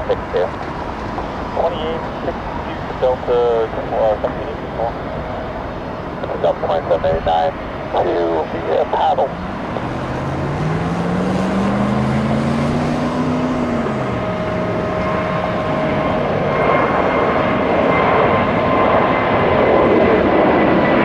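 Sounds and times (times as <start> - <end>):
jet engines roaring: 0.0 - 21.0
low hum gliding up: 0.0 - 21.0
steady whining tones: 0.0 - 21.0.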